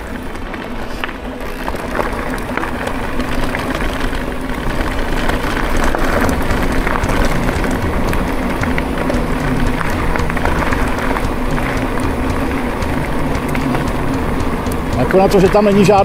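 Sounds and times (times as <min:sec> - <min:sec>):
bike rattling: 0:00.0 - 0:16.0
bike tyres on rough trail: 0:00.0 - 0:16.0.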